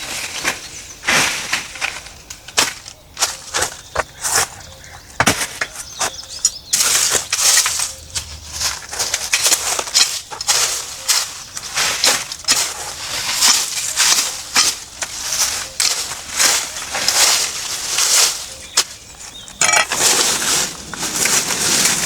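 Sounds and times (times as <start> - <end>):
rustling and crunching: 0.0 - 22.0.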